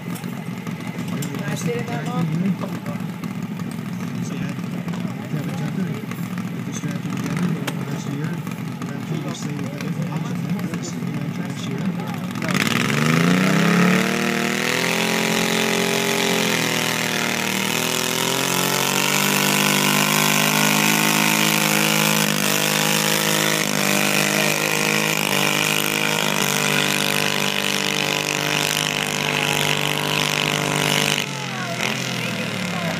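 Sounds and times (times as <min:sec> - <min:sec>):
tractor engine at high revs: 0:00.0 - 0:32.9.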